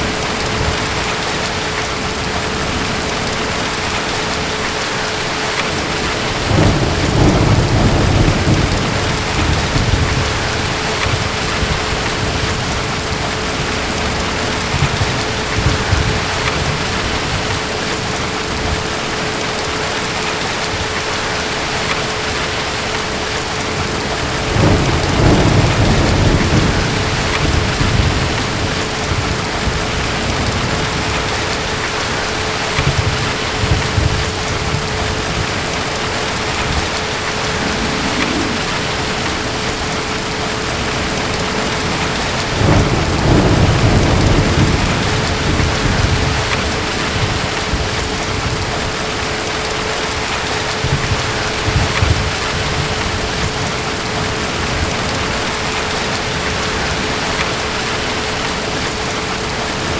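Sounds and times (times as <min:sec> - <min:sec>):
distant thunder rumbling: 0:00.0 - 0:21.1, 0:23.1 - 0:59.9
heavy rain: 0:00.0 - 0:59.9.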